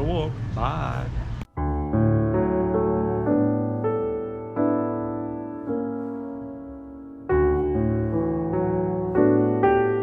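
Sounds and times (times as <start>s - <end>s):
slow piano chords: 1.4s - 10.0s.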